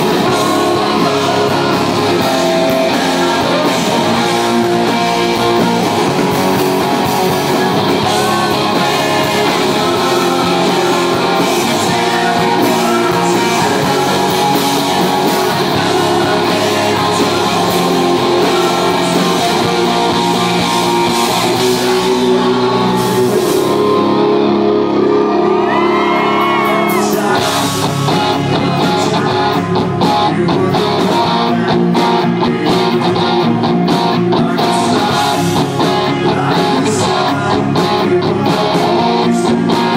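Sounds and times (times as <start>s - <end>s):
live rock band playing: 0.0s - 39.9s
man singing lead vocal: 0.0s - 39.9s.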